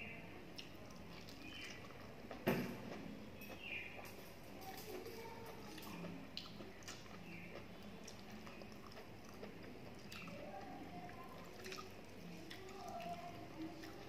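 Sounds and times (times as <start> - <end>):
chewing: 0.5 - 14.0.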